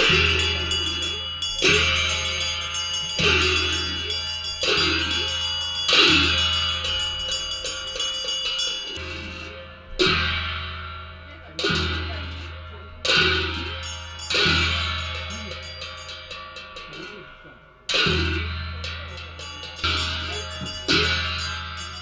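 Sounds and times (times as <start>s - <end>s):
music: 0.0s - 22.0s.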